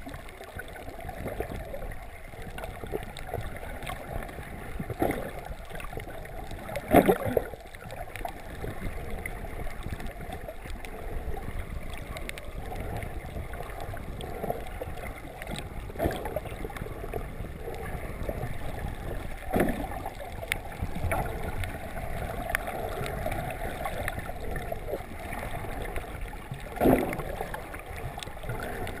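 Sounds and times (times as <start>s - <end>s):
muffled underwater rumble: 0.0s - 29.0s
water swishes: 0.0s - 29.0s.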